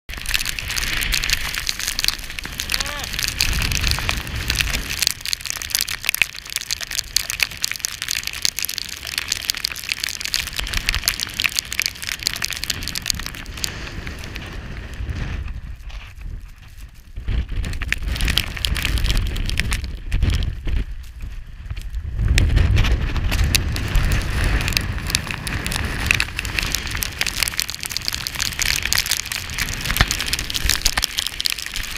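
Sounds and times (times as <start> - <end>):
blizzard wind buffeting microphone: 0.1 - 31.9
snow pelting microphone: 0.1 - 31.9.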